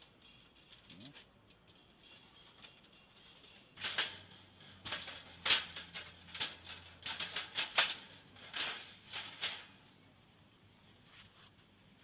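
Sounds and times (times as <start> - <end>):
objects rustling and clicking: 0.0 - 9.8.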